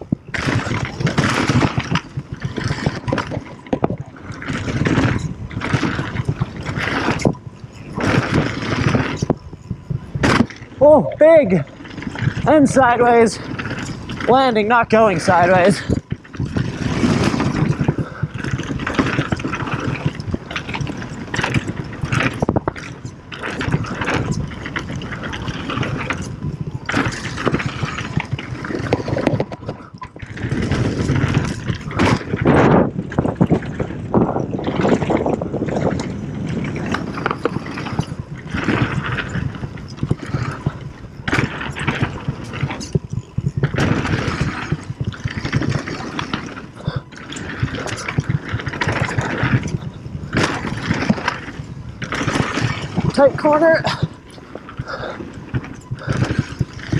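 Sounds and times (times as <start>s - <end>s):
bike rattling and knocking: 0.0s - 56.9s
tyres rolling over gravel: 0.0s - 56.9s
wind rushing over microphone: 0.0s - 56.9s.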